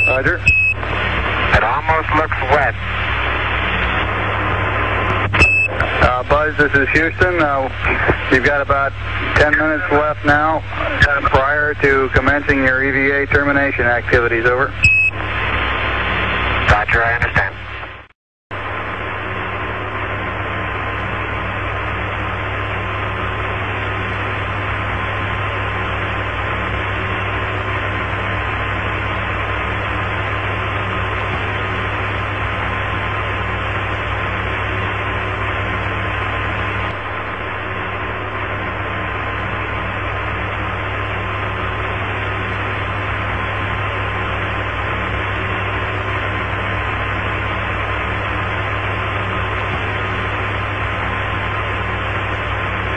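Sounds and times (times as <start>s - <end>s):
low hum: 0.0s - 52.9s
radio hiss: 0.0s - 52.9s.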